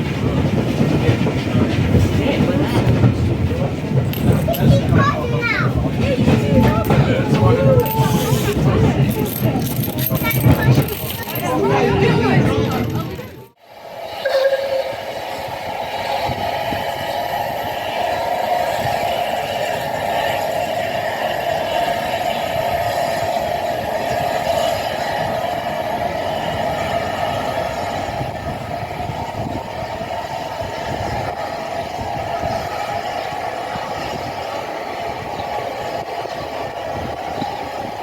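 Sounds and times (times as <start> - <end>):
train wheels rumbling on rails: 0.0 - 14.0, 14.9 - 38.0.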